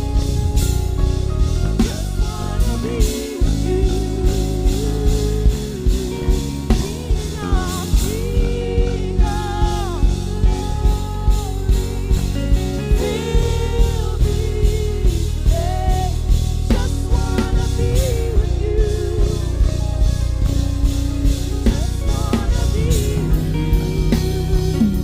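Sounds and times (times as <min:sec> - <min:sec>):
drum kit steady beat: 0:00.0 - 0:25.0
worship band music: 0:00.0 - 0:25.0.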